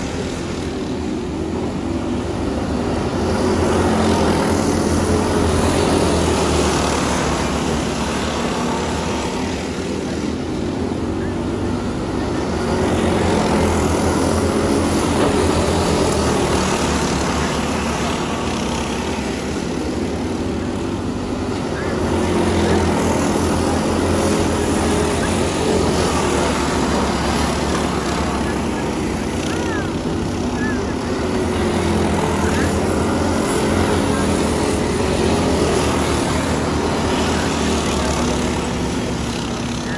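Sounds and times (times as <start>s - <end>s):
go-kart engines racing: 0.0s - 39.9s.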